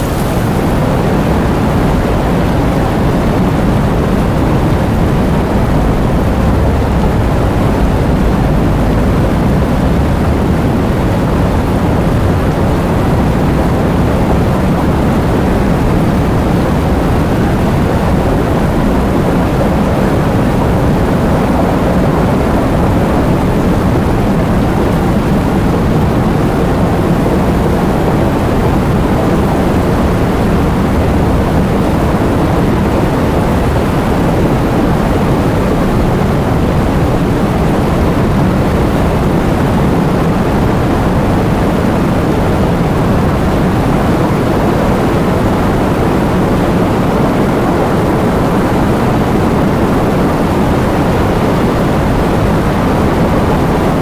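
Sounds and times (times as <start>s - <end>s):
heavy rain with wind: 0.0s - 54.0s.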